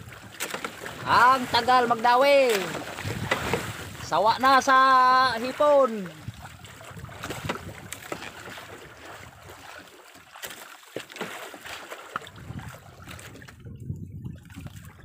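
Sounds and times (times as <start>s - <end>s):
water lapping against boat hull: 0.0s - 15.0s
wind: 0.0s - 15.0s.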